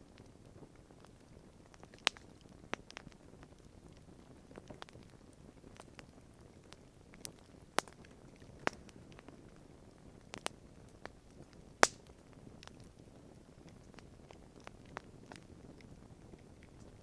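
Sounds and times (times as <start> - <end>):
campfire crackling: 0.0 - 17.0
low steady hiss: 0.0 - 17.0.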